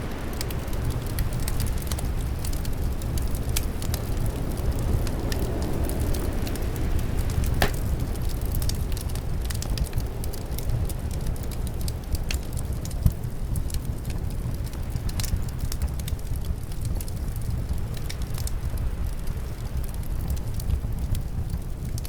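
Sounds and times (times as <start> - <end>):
low rumble of wind: 0.0 - 22.0
wood fire crackling and popping: 0.0 - 22.0.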